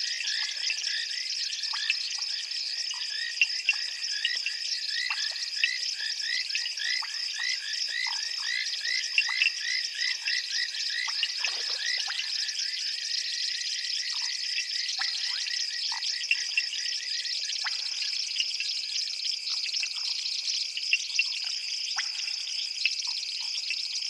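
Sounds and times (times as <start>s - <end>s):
chorus of frogs calling: 0.0s - 23.8s.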